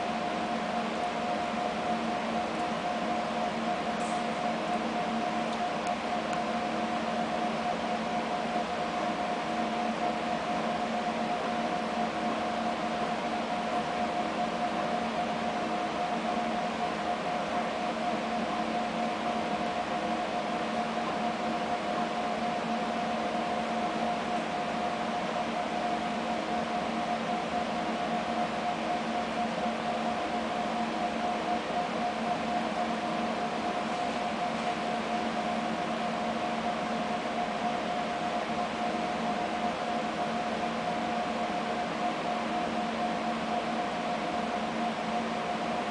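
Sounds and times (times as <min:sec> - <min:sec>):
mechanical hum with whine: 0:00.0 - 0:45.9.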